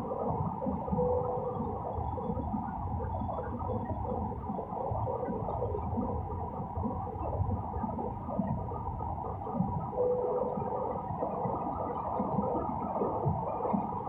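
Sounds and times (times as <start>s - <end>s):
jet engine and airflow drone: 0.0s - 14.0s.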